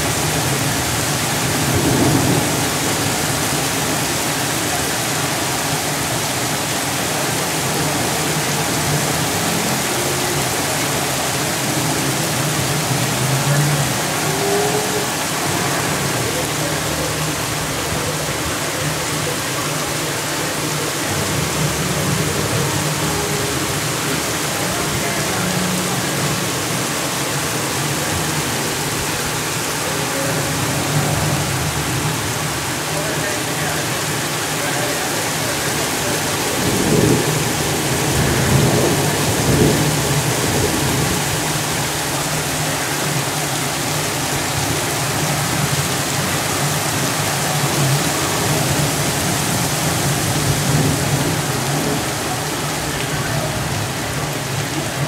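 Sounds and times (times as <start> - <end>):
heavy rain splashing: 0.0 - 55.0.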